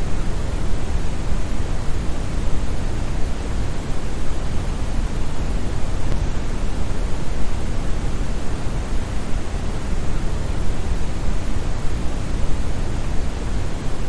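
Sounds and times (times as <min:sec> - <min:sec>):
brown noise hiss: 0:00.0 - 0:14.0.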